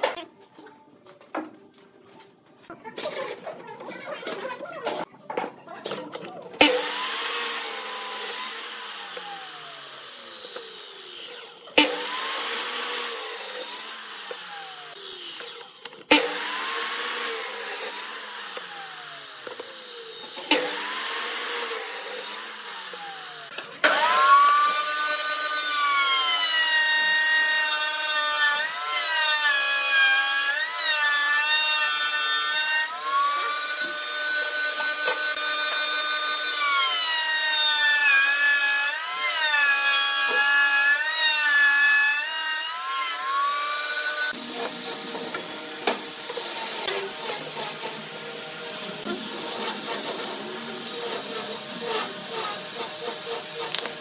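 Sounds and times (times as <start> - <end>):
miter saw cutting wood: 6.6 - 54.0.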